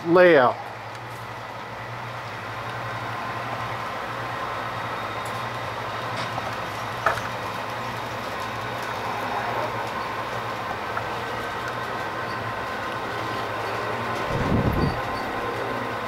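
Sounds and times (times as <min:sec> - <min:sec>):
model train motors whirring: 0:00.8 - 0:16.0.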